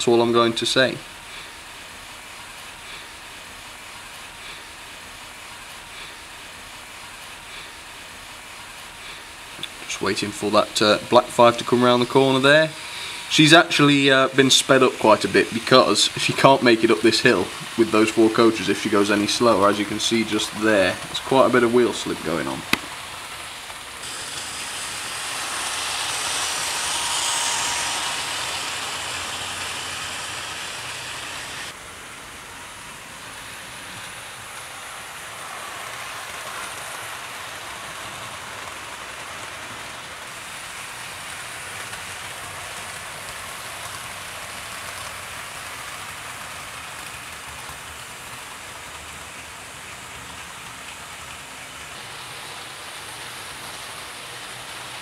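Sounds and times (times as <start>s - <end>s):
model trains whirring on track: 0.0s - 55.0s.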